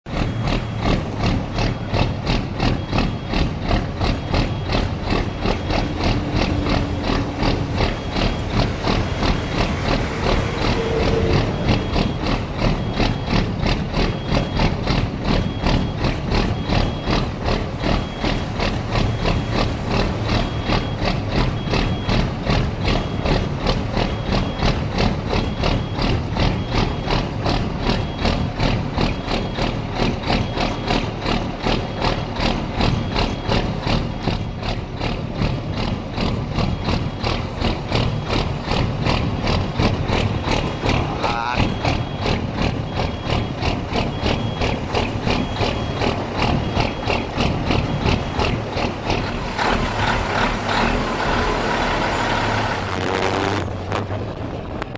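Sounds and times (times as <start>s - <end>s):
diesel truck engine idling: 0.1s - 54.9s.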